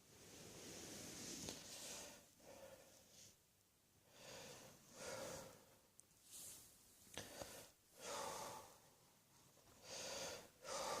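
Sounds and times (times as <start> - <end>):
person breathing: 0.2 - 3.4, 4.0 - 11.0.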